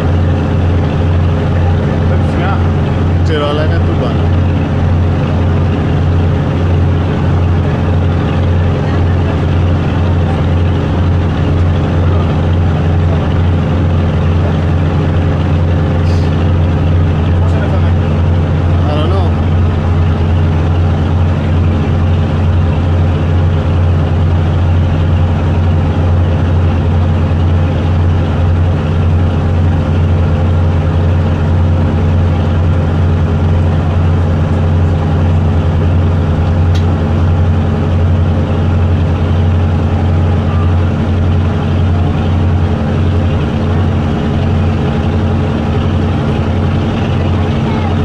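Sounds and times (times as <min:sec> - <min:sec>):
boat engine running: 0:00.0 - 0:48.0.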